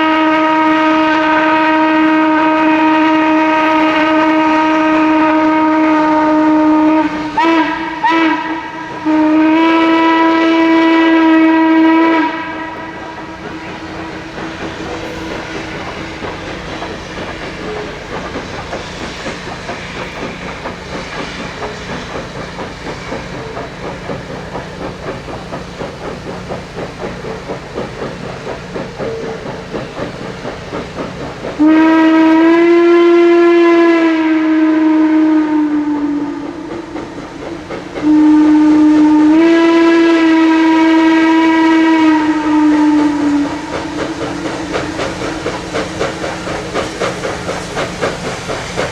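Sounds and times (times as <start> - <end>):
steam whistle blasts: 0.0 - 25.2, 31.5 - 48.6
steam locomotive chugging: 0.0 - 48.9.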